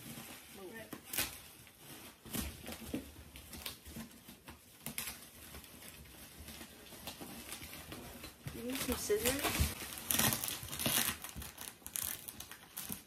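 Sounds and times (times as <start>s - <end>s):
packing material rustling: 0.0s - 13.0s.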